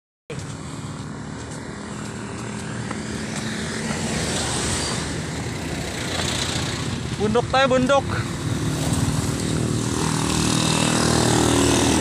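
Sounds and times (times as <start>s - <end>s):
road and wind noise: 0.3s - 12.0s.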